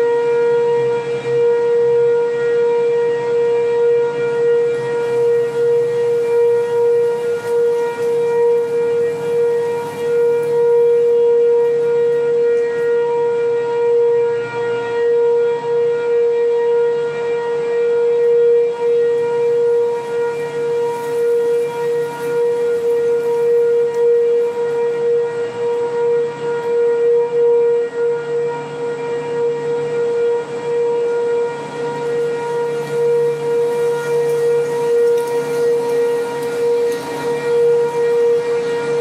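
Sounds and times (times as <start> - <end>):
warning siren steady tone: 0.0 - 39.0.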